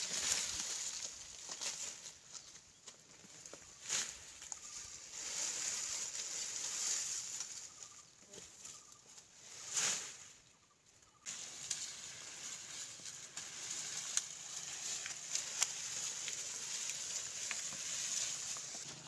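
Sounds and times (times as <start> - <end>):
dry vines rustling and cracking: 0.0 - 10.3, 11.3 - 19.0.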